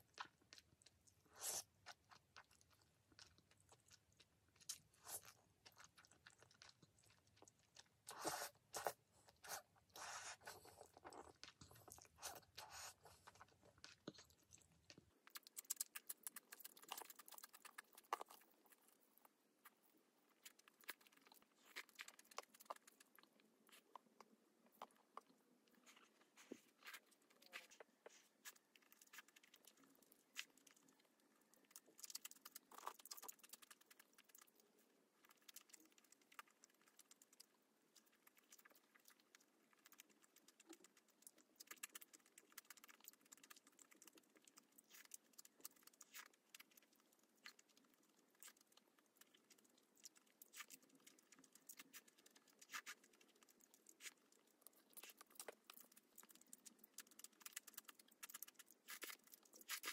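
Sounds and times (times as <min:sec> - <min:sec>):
chewing and slurping noodles: 0:00.0 - 0:59.9.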